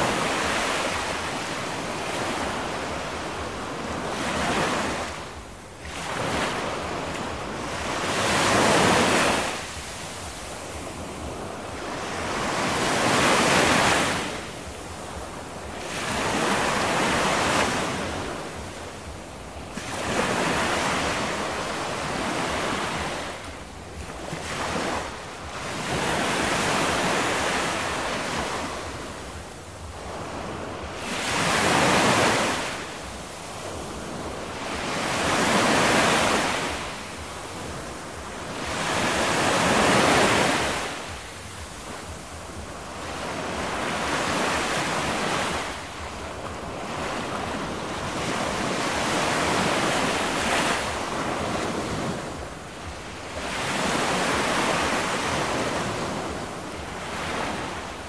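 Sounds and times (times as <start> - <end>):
ocean waves rushing: 0.0 - 58.0.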